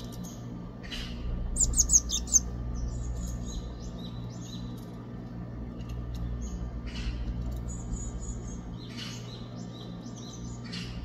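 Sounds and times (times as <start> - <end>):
bird chirping high: 0.1 - 4.8, 6.3 - 11.0.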